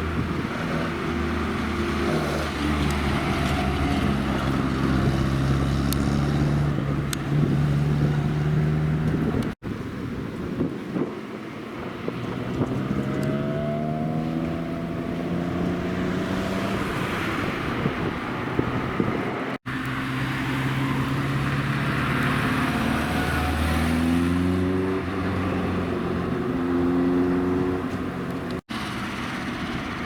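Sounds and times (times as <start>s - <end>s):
car engine accelerating: 0.0s - 9.6s, 12.1s - 30.0s.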